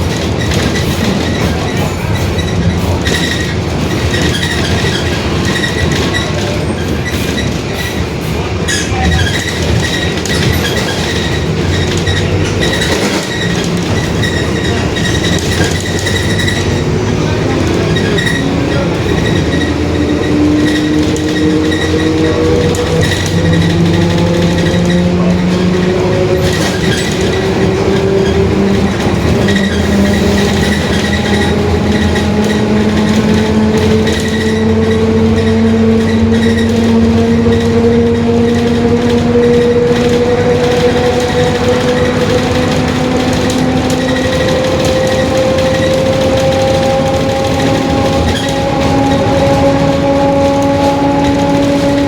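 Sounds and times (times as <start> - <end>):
bus engine rumble: 0.0 - 52.0
differential whining: 0.0 - 52.0
ride noise: 0.0 - 52.0.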